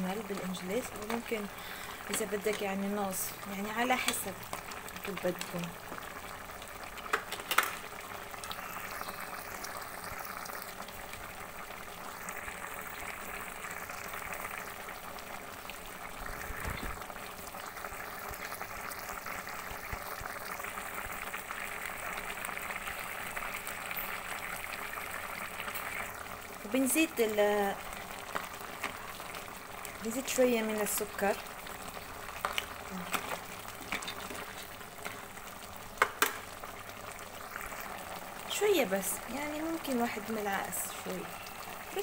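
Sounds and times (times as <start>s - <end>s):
stew bubbling and sizzling: 0.0s - 42.0s.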